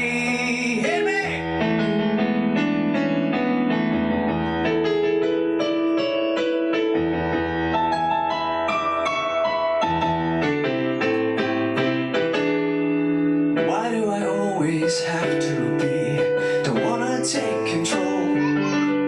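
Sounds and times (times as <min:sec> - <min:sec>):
piano-like keyboard chords: 0:00.0 - 0:19.0.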